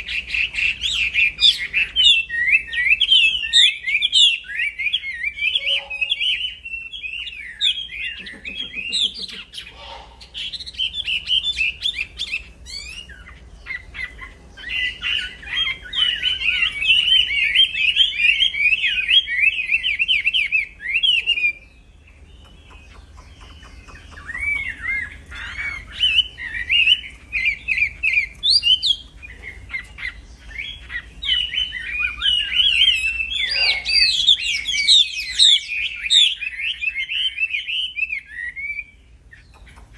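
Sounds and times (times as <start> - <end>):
songbird warbling and chattering: 0.0 - 39.9.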